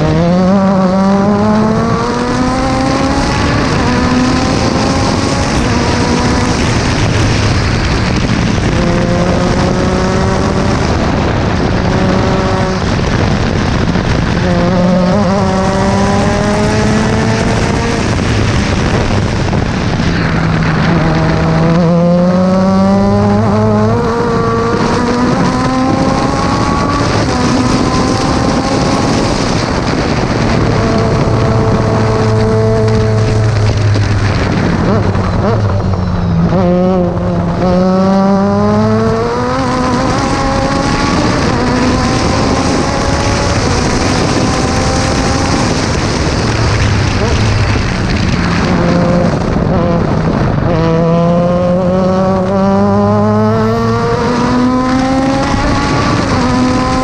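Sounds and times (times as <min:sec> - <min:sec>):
race car engine revving: 0:00.0 - 0:57.0
wind rush: 0:00.0 - 0:57.0.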